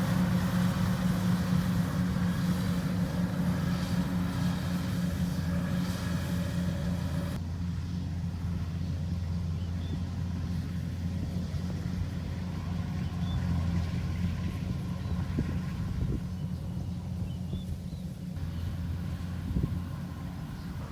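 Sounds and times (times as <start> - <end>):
diesel engine droning: 0.0 - 20.9.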